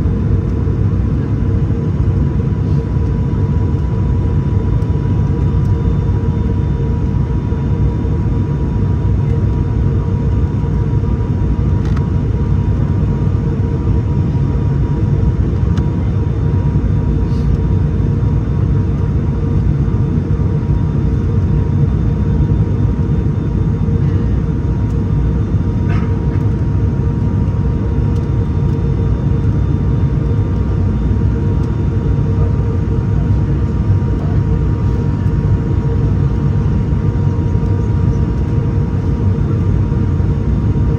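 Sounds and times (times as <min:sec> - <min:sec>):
turboprop cabin drone: 0:00.0 - 0:40.9.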